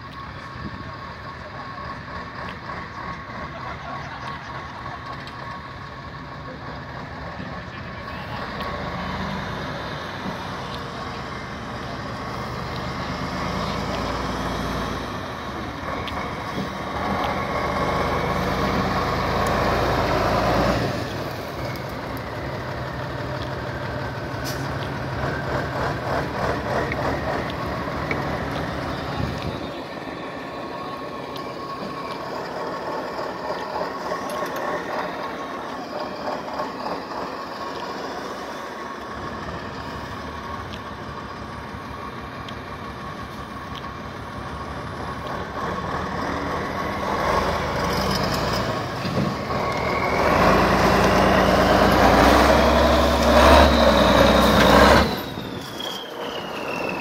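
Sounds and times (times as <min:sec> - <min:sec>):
heavy diesel truck engine: 0:00.0 - 0:57.0.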